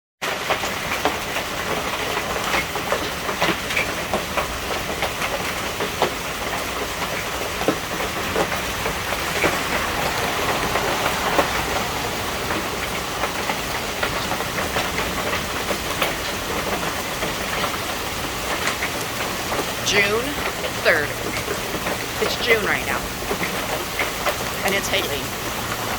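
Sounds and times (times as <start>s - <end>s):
hail clattering on surfaces: 0.2s - 25.9s.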